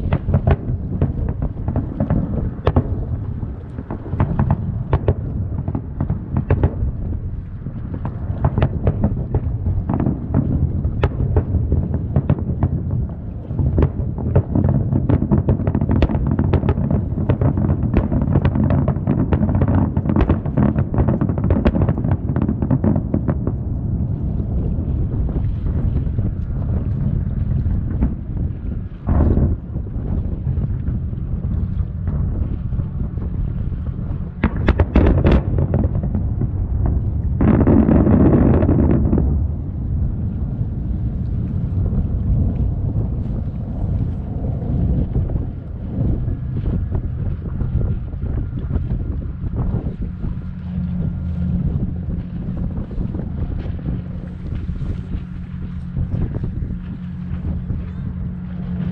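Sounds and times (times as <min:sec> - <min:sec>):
fireworks bangs and crackles: 0:00.0 - 0:58.9
low rumble: 0:00.0 - 0:58.9.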